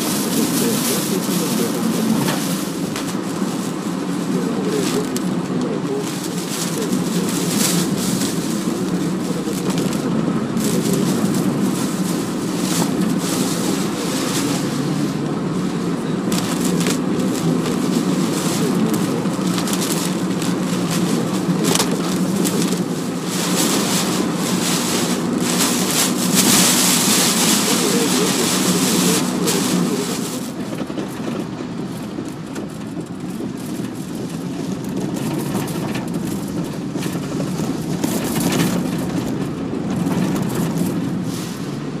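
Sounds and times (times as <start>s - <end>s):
rain spattering on car body: 0.0s - 41.3s
tyres rumbling on road: 0.0s - 42.0s
wind and rain buffeting car: 0.0s - 42.0s.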